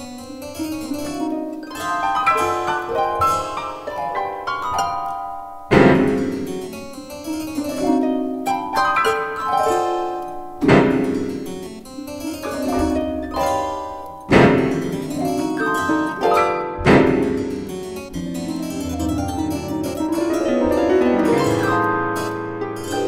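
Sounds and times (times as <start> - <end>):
chamber music with piano and harp: 0.6 - 23.0.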